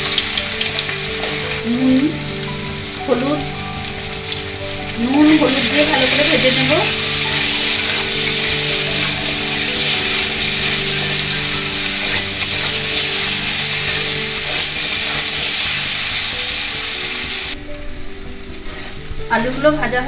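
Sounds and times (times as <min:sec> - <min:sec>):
potatoes sizzling in oil: 0:00.0 - 0:20.0.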